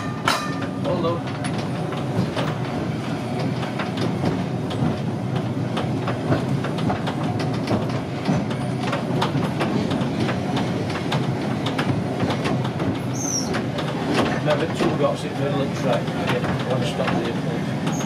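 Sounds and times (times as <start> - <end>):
tram low hum: 0.0 - 18.0
tram wheels rattling on rails: 0.0 - 18.0.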